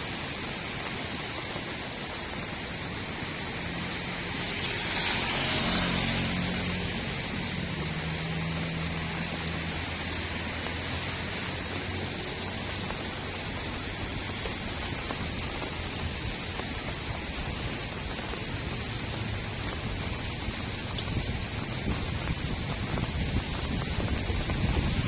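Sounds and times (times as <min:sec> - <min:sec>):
steady rain on a street: 0:00.0 - 0:25.0.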